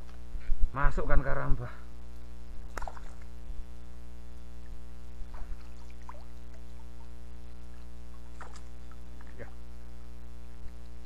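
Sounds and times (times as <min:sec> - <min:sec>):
low electrical hum: 0:00.0 - 0:11.0
faint water-like blips: 0:01.9 - 0:11.0.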